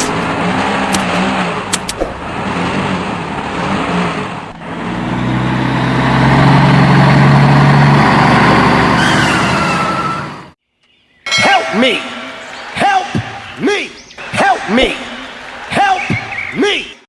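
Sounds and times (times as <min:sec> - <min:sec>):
vehicle engine running: 0:00.0 - 0:09.0, 0:12.2 - 0:16.9.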